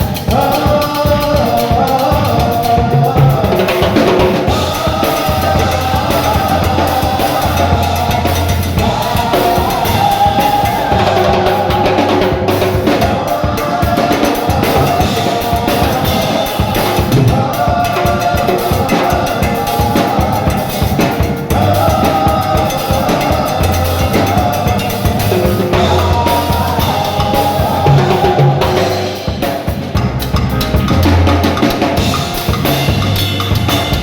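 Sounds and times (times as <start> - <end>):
band music: 0.0 - 34.0
drum kit beat: 0.0 - 34.0.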